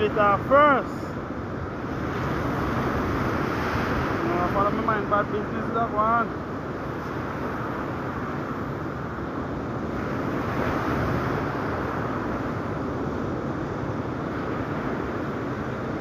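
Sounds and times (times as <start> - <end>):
ocean surf: 0.0 - 16.0
wind on microphone: 0.0 - 16.0.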